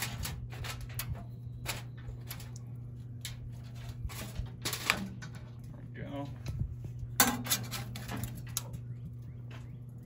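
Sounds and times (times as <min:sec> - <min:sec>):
wire crinkles and clicks: 0:00.0 - 0:05.8, 0:06.4 - 0:10.0
steady low hum: 0:00.0 - 0:10.0.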